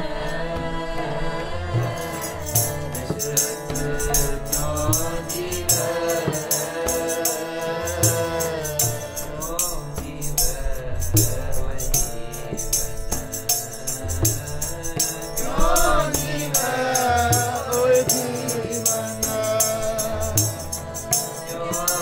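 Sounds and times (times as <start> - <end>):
harmonium chords: 0.0 - 22.0
person singing: 0.0 - 22.0
jingling percussion: 1.7 - 22.0.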